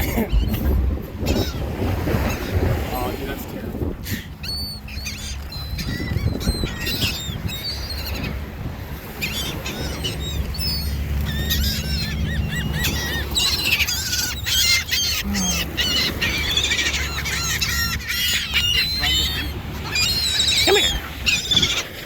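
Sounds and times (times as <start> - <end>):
flock of birds squawking: 0.2 - 3.1, 4.0 - 22.0.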